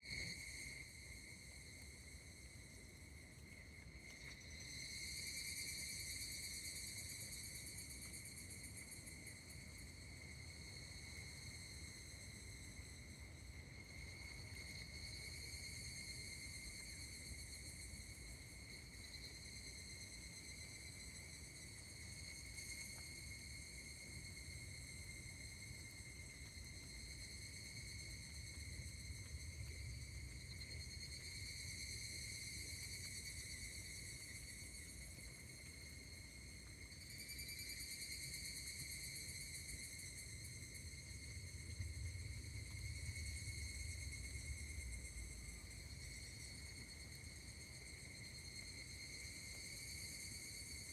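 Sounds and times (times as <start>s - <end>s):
cicadas chorus: 0.0s - 50.9s.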